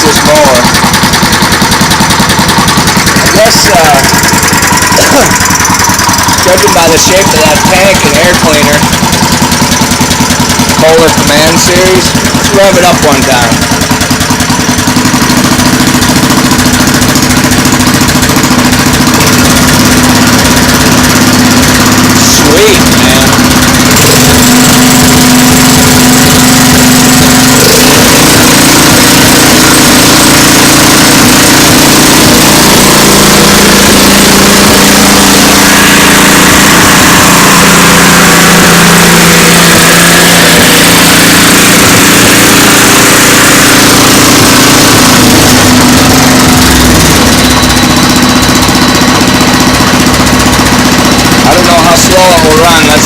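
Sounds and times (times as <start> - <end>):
small engine running fast: 0.0 - 53.0.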